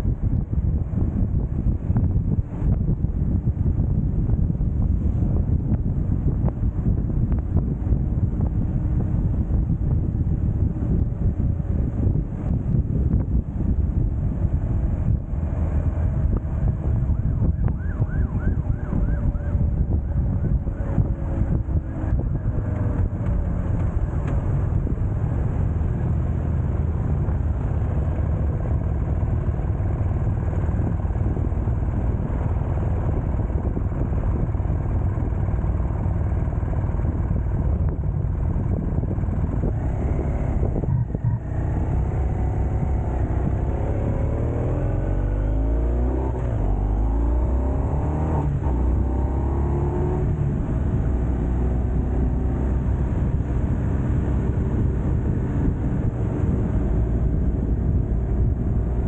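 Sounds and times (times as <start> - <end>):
vehicle engine running: 0.0 - 59.0
wind and road noise: 0.0 - 59.0.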